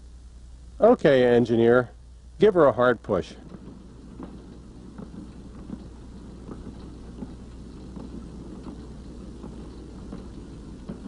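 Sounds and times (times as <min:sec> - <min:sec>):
film soundtrack crackling hiss: 0:00.0 - 0:11.0
low hum: 0:00.0 - 0:11.0.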